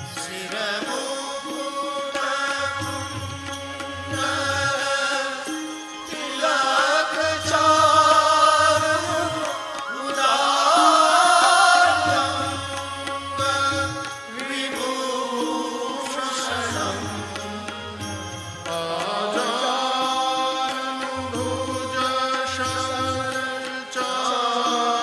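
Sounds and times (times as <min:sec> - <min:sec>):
devotional music melody: 0:00.0 - 0:25.0.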